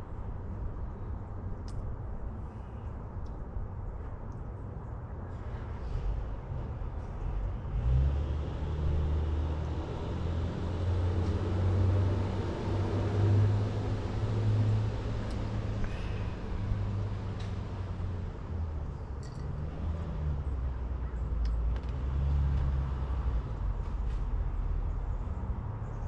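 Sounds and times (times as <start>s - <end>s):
low uneven outdoor rumble: 0.0s - 26.0s.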